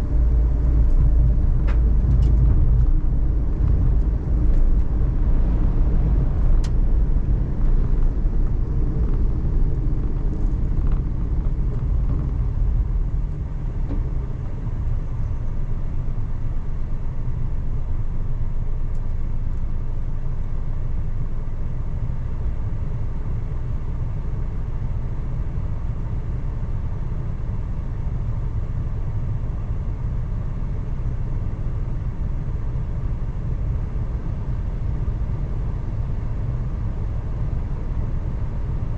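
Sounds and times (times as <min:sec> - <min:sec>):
van engine and road rumble: 0:00.0 - 0:38.9.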